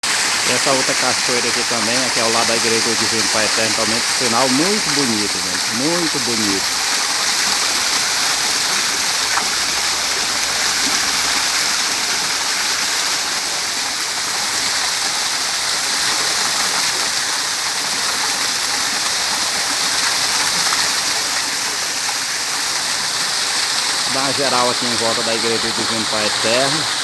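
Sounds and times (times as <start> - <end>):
small waterfall pouring: 0.0 - 27.0.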